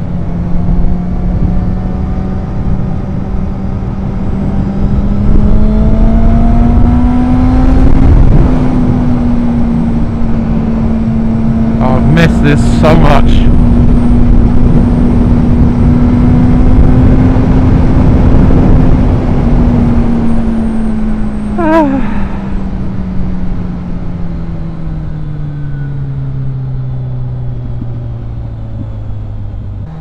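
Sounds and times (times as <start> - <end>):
wind rush: 0.0 - 25.0
motorcycle engine: 0.0 - 30.0.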